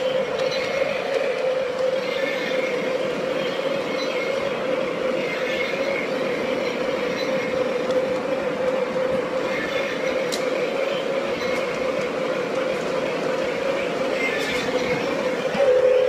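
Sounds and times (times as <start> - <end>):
model train motor humming: 0.0 - 16.0
wheels running on rail: 0.0 - 16.0.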